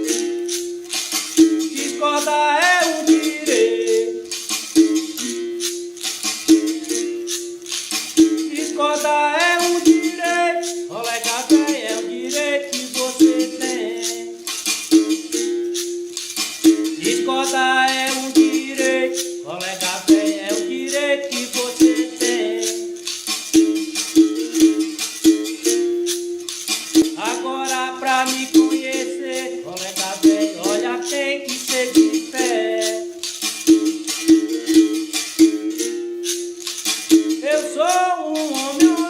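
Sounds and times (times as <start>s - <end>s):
shaker rattle: 0.0s - 39.0s.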